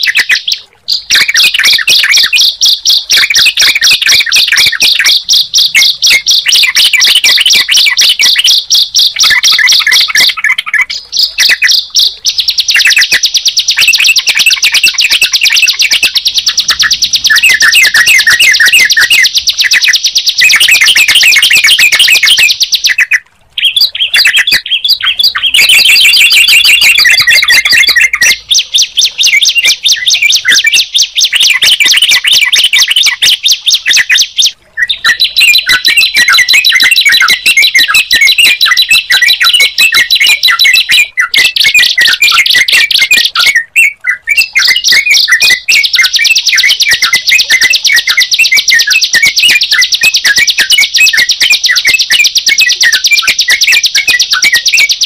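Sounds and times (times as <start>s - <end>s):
high bird chirping and trills: 0.0s - 55.0s.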